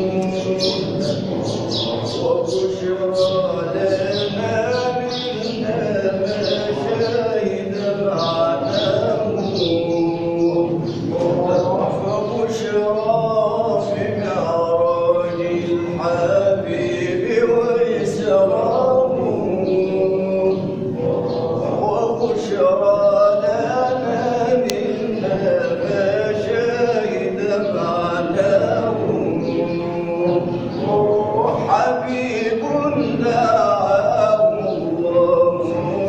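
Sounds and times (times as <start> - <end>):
men chanting and singing: 0.0 - 36.0.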